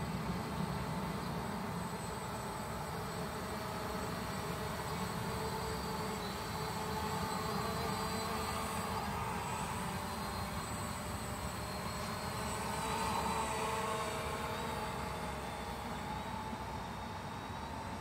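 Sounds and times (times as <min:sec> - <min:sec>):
drone motors whining: 0:00.3 - 0:18.0.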